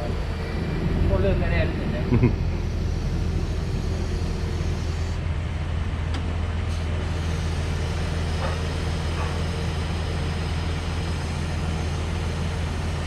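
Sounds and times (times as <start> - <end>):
truck engine low hum: 0.0 - 13.0.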